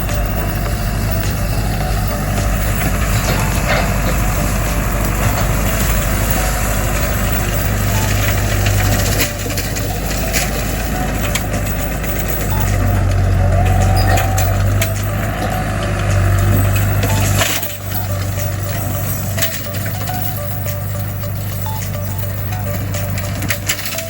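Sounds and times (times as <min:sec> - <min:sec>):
tractor diesel engine running hard: 0:00.0 - 0:24.0.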